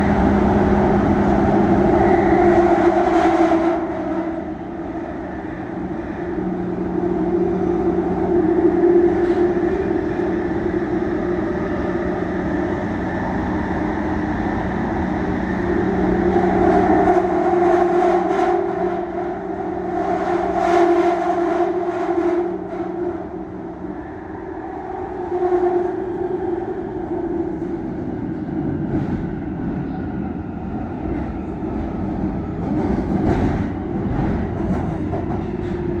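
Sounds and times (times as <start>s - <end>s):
train rumbling through tunnel: 0.0s - 36.0s.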